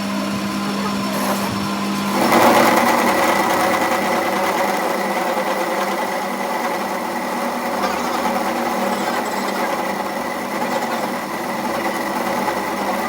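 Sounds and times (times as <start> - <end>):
power tool motor humming: 0.3 - 13.0.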